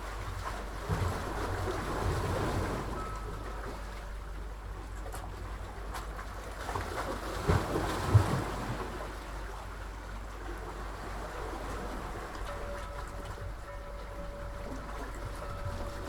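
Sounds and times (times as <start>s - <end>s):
sea water sloshing: 0.0s - 16.0s.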